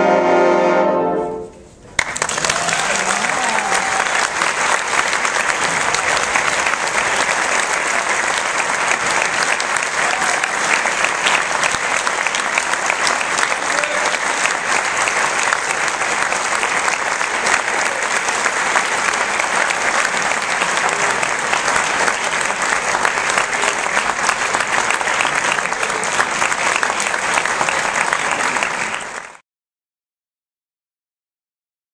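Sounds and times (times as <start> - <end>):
audience applauding: 2.0 - 29.4.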